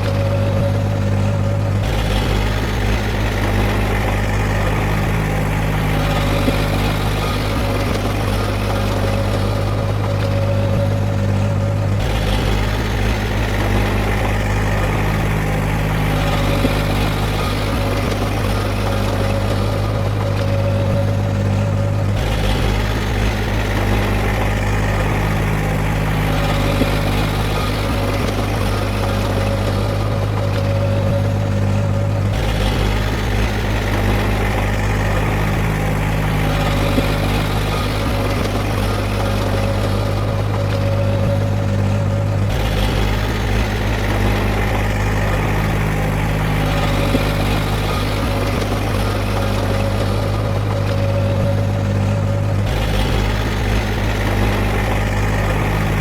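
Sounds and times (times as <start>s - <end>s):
heavy machine diesel engine running: 0.0s - 56.0s.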